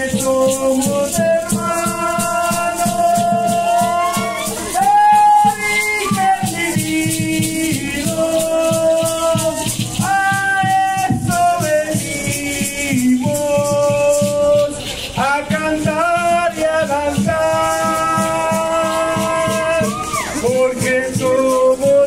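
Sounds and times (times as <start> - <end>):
chant singing in long held notes: 0.0 - 22.0
dancers' rattles shaken: 0.0 - 22.0.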